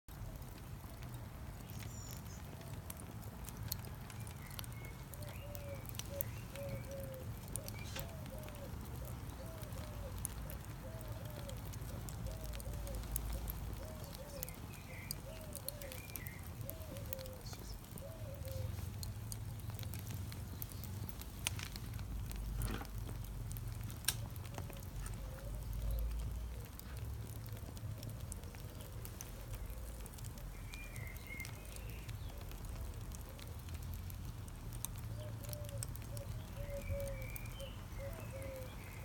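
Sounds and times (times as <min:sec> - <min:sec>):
charcoal fire crackling: 0:00.1 - 0:39.0.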